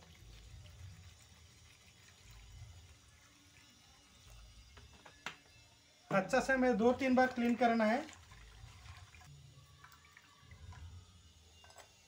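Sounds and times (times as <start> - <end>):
water pouring into metal pan: 0.0 - 4.6, 6.2 - 12.0.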